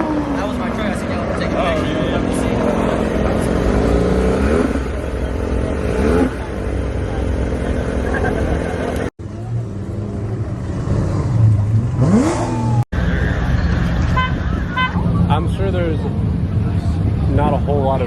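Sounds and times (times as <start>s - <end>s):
car engines revving: 0.0s - 18.0s
low engine rumble: 0.0s - 18.0s.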